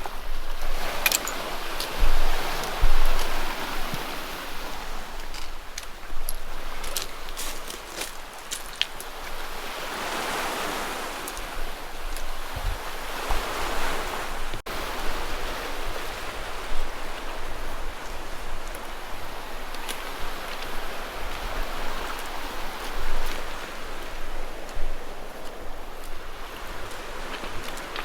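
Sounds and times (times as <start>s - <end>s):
sea waves washing onto shore: 0.0s - 28.0s
wind gusts on microphone: 0.0s - 28.0s.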